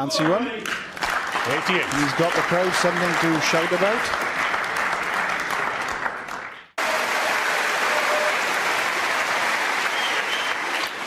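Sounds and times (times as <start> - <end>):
crowd applauding: 0.2 - 11.0.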